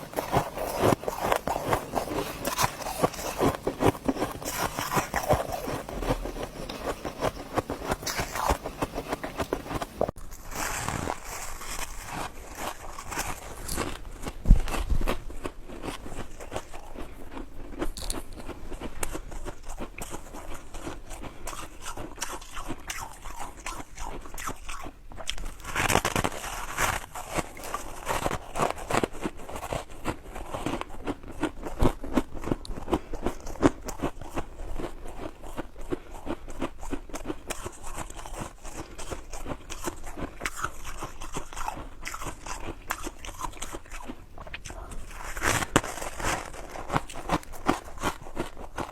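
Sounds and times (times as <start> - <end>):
ice crunching while chewed: 0.0 - 48.9.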